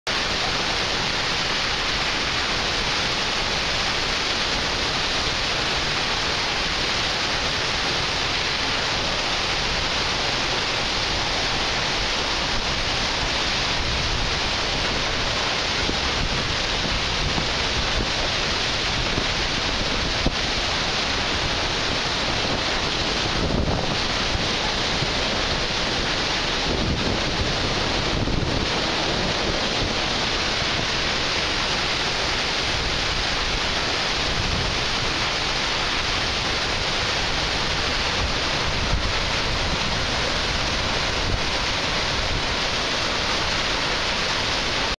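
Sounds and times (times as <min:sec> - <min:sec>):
waterfall roaring: 0:00.1 - 0:45.0.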